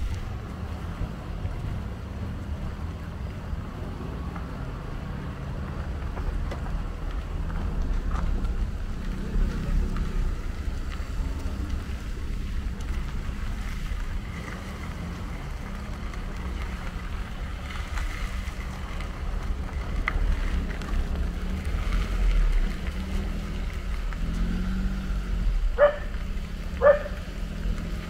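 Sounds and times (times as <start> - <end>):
cars approaching slowly: 0.0 - 28.0
wind rumbling on microphone: 0.0 - 28.0.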